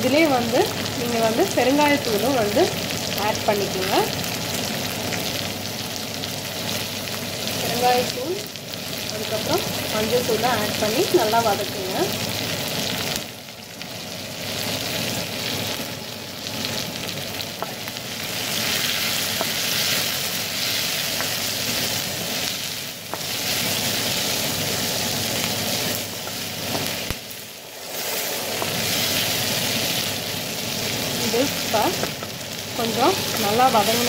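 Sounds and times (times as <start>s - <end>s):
onion and garlic sizzling in oil: 0.0s - 34.0s.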